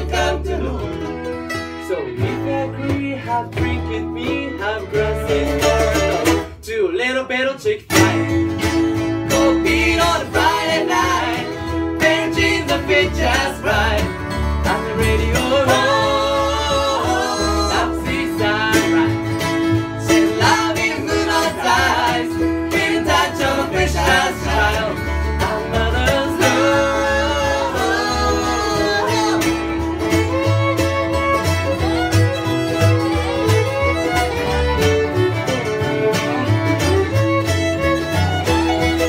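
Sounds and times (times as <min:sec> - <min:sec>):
fiddle melody: 0:00.0 - 0:06.5, 0:08.0 - 0:39.0
strummed acoustic guitar: 0:00.0 - 0:06.6, 0:07.8 - 0:39.0
mandolin: 0:00.0 - 0:06.7, 0:07.8 - 0:39.0
upright bass: 0:00.0 - 0:39.0.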